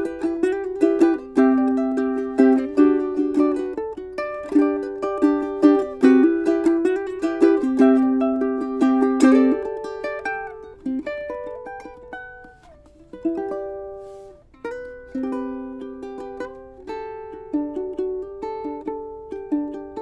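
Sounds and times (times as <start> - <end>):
ukulele playing: 0.0 - 20.0.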